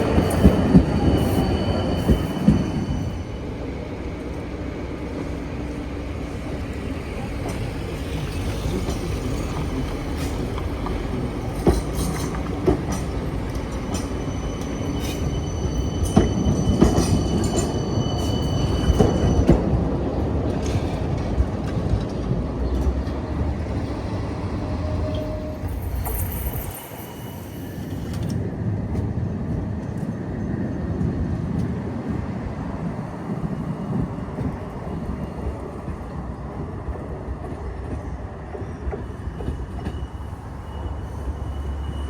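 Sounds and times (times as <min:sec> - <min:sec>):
tram wheels rumbling on rail: 0:00.0 - 0:42.0.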